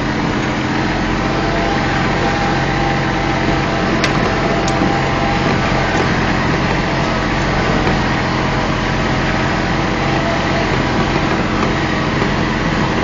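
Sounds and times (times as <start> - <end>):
small engine running under load: 0.0 - 13.0.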